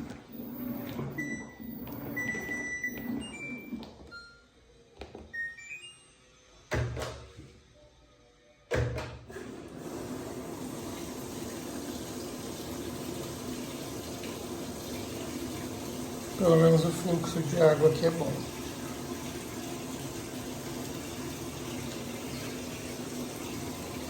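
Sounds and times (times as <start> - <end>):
washing machine running: 0.0 - 4.4, 8.7 - 24.0.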